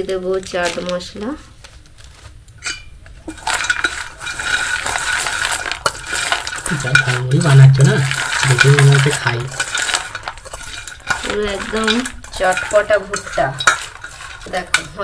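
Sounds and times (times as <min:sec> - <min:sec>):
spoon clinking and scraping bowl: 0:02.6 - 0:15.0.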